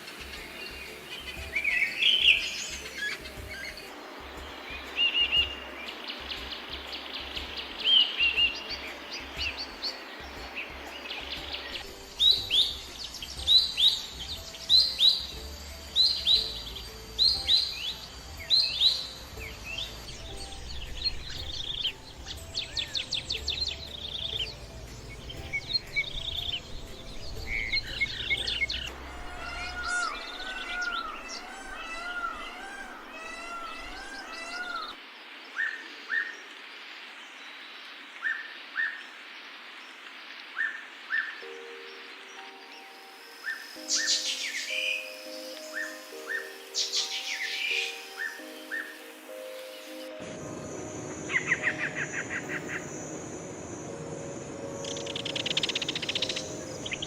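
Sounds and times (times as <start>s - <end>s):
bird chips and trills: 0.0s - 35.0s, 40.6s - 57.0s
birds chirping and whistling: 0.0s - 35.0s, 40.6s - 57.0s.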